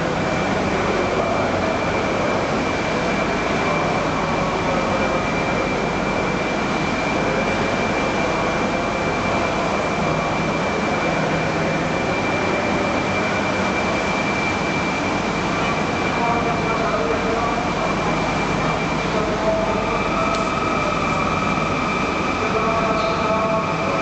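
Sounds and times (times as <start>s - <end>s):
high-pitched whine: 0.0s - 24.0s.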